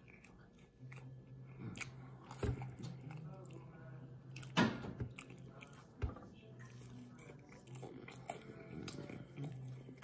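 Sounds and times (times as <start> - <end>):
low steady hum: 0.0 - 10.0
person chewing food: 0.0 - 10.0.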